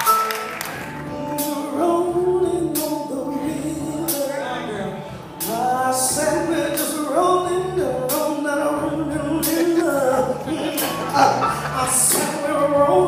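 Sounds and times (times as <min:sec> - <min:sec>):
drums: 0:00.0 - 0:13.0
keyboards: 0:00.0 - 0:13.0
person singing: 0:00.0 - 0:13.0.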